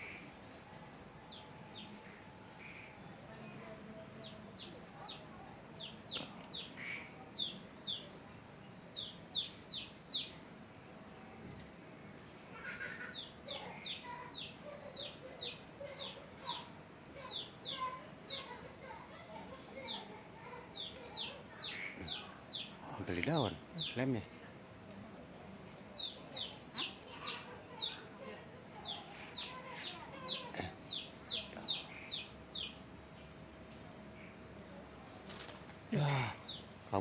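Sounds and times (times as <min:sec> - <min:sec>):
small bird chirping: 0:00.0 - 0:10.5, 0:12.4 - 0:24.3, 0:25.8 - 0:37.0
crickets trilling: 0:00.0 - 0:37.0.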